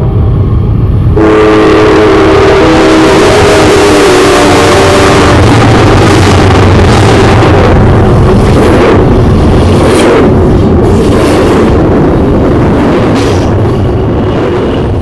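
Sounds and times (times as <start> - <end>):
distorted train rumble: 0.0 - 15.0
freight train passing: 0.0 - 15.0.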